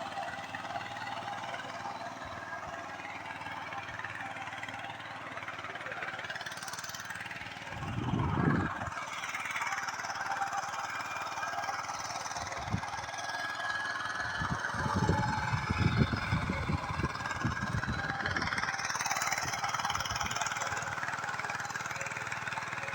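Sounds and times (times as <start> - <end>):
small engine running: 0.0 - 22.9.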